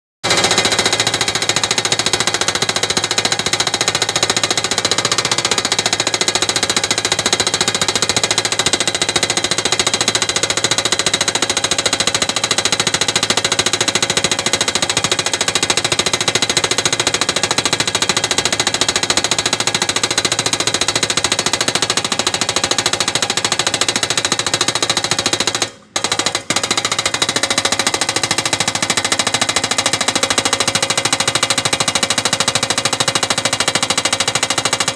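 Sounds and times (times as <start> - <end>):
rapid mechanical hammering: 0.2 - 34.9.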